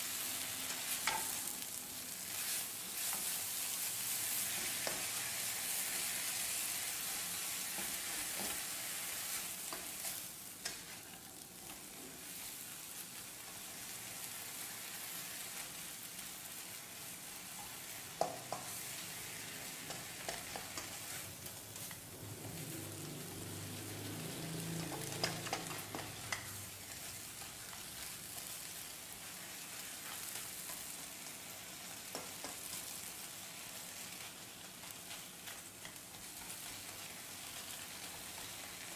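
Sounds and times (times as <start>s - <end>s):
greens sizzling in a wok: 0.0s - 38.9s.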